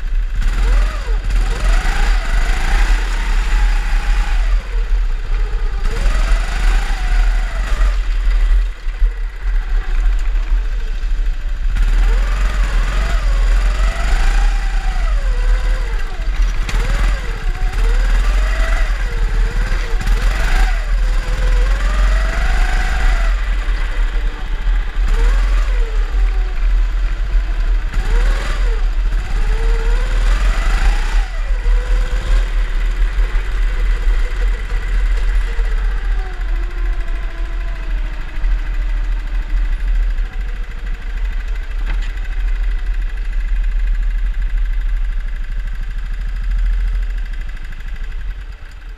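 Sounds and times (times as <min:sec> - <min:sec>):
kart motor revving: 0:00.0 - 0:48.9.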